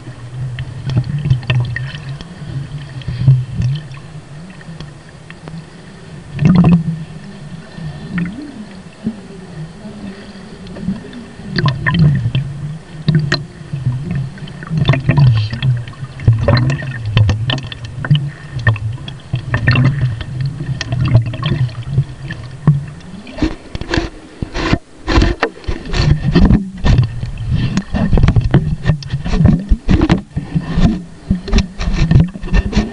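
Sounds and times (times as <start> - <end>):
muffled water sloshing and gurgling: 0.0 - 32.9.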